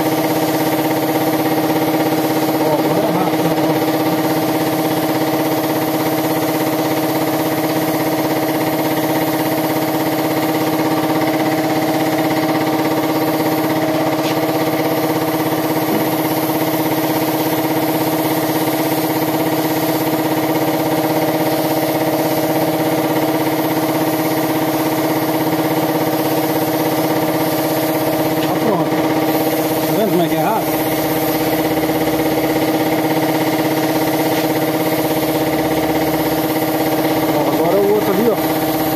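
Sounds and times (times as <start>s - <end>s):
air compressor humming: 0.0s - 38.9s
spray gun hissing: 0.0s - 38.9s.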